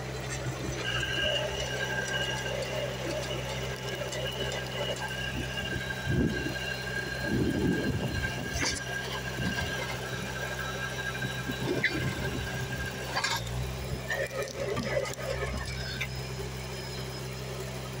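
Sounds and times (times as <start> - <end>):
drilling rig hum: 0.0 - 18.0
high-pitched squeal: 0.0 - 18.0.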